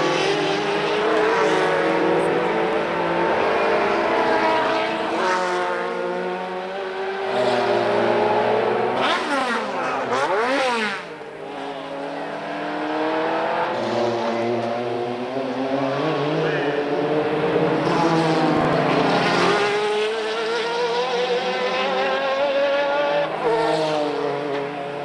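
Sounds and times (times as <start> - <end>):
car passing by close: 0.0 - 25.0
race car engines accelerating: 0.0 - 25.0.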